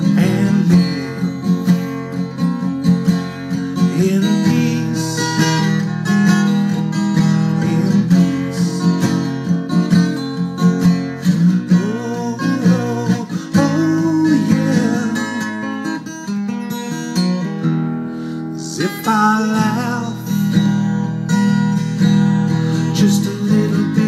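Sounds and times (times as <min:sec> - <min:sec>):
acoustic guitar strummed: 0:00.0 - 0:24.0.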